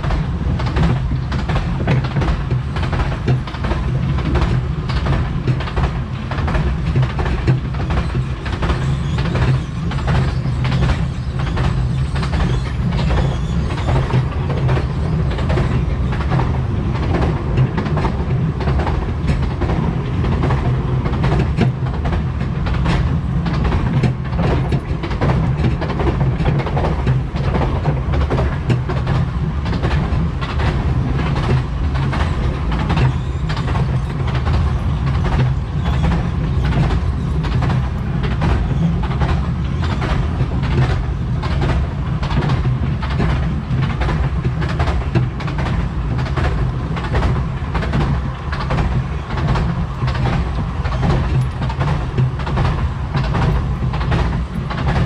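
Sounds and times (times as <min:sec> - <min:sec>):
railway carriage rumble: 0:00.0 - 0:55.0.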